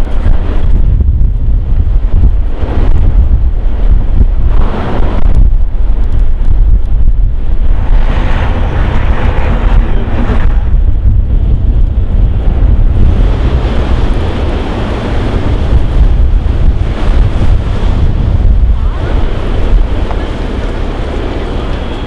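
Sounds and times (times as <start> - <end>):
blizzard wind buffeting microphone: 0.0 - 22.0.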